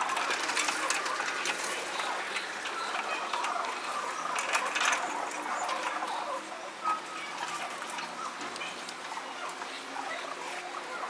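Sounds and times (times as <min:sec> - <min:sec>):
pigeons pecking on concrete: 0:00.0 - 0:11.0.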